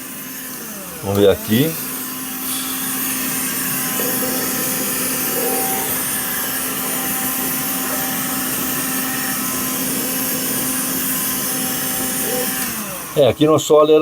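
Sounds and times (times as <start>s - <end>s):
handheld vacuum whining: 0.0s - 14.0s.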